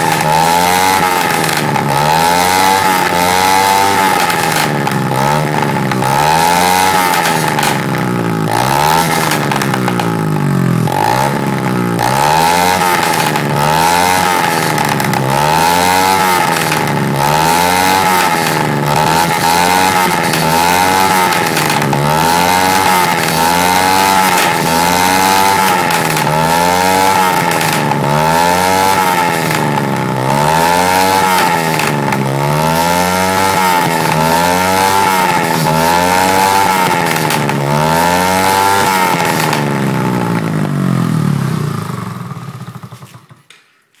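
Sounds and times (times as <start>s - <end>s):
quad bike engine revving: 0.0s - 43.6s.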